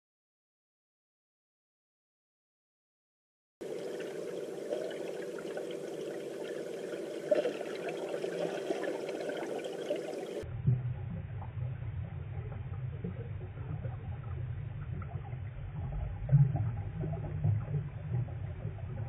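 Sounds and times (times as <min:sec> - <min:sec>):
underwater watery rush: 0:03.6 - 0:19.0.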